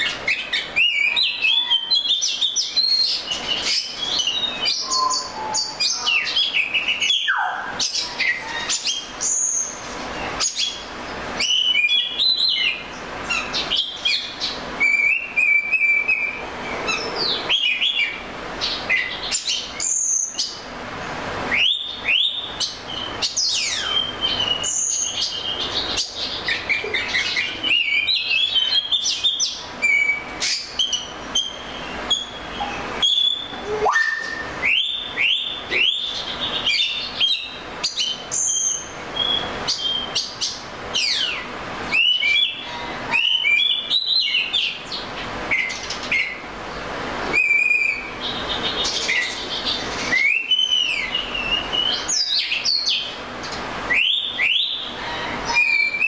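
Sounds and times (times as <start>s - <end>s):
bird singing whistles and trills: 0.0s - 20.6s, 21.5s - 46.4s, 47.3s - 53.1s, 53.9s - 56.0s.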